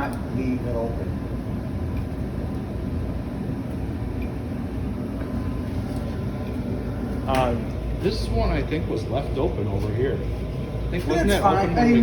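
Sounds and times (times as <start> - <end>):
furnace running: 0.0 - 12.0.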